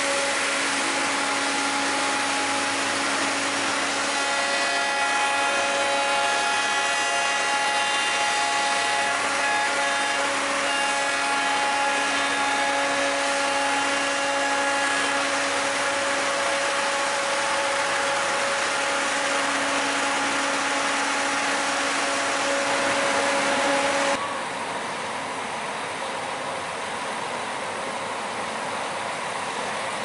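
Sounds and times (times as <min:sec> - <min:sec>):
locomotive mechanical drone and whine: 0:00.0 - 0:30.0.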